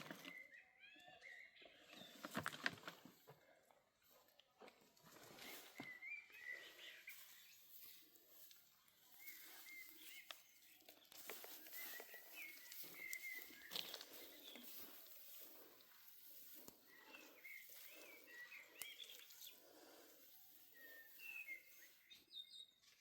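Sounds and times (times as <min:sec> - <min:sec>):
bird chirping: 0:00.0 - 0:02.5, 0:05.2 - 0:23.0.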